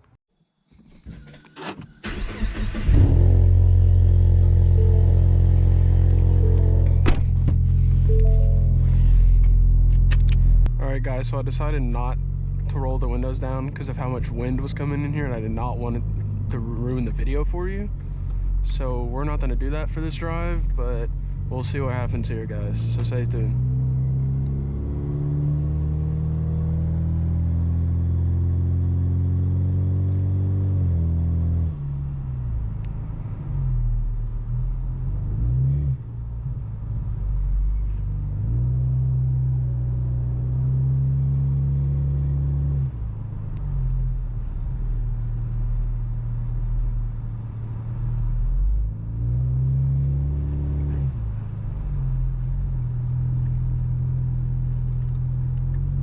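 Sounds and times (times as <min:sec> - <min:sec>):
car engine droning under acceleration: 0:02.1 - 0:56.0.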